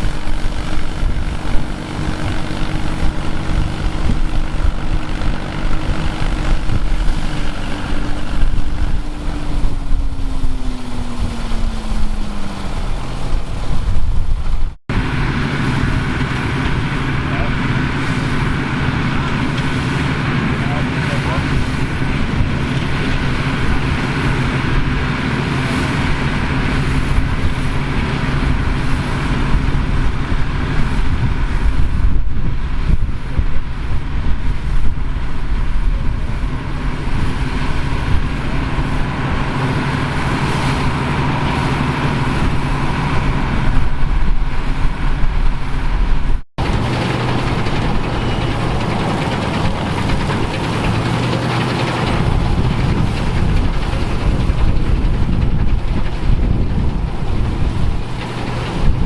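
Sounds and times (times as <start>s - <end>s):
farm machinery engines droning: 0.0s - 59.0s.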